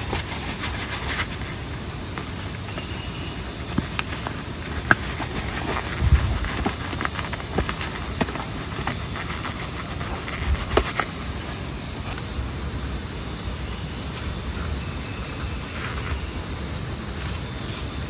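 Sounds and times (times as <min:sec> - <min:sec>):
faint insect trill: 0:00.0 - 0:18.0.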